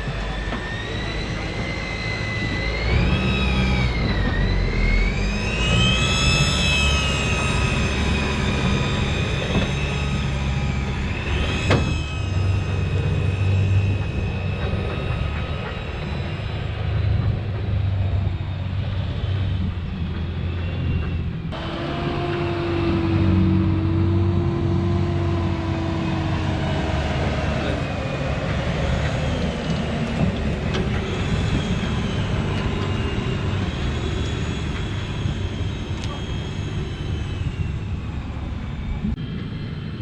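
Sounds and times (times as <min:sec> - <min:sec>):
diesel engine running: 0:00.0 - 0:39.5
wavering whine: 0:00.0 - 0:40.0.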